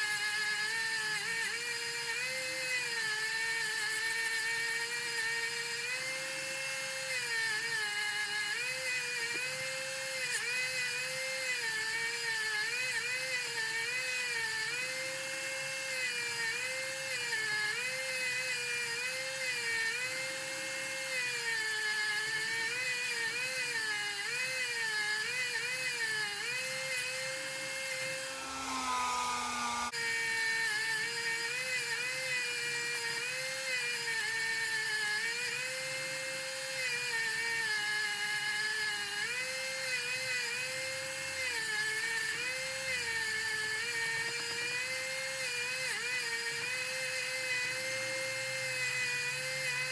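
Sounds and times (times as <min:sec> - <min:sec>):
small electric power tool running: 0:00.0 - 0:49.9.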